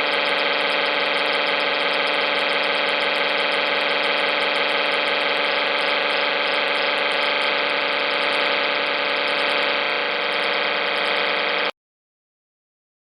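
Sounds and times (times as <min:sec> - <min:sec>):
distorted droning noise music: 0:00.0 - 0:11.7.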